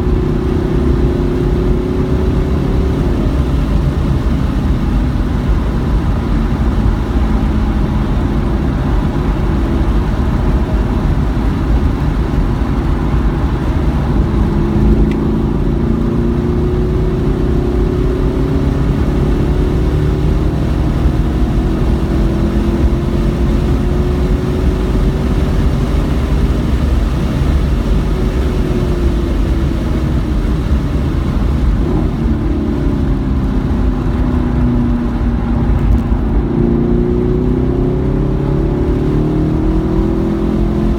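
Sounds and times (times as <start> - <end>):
race car engine revving: 0.0 - 40.9
road and wind noise: 0.0 - 40.9.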